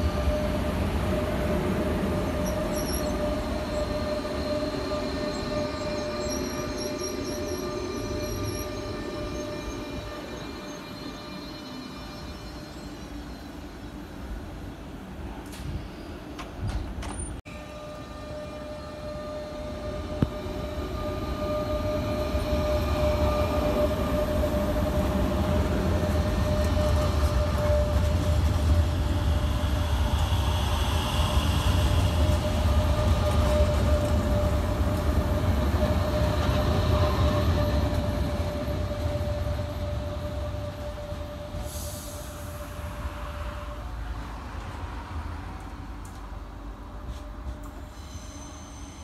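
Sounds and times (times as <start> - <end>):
train wheels rumbling: 0.0 - 49.0.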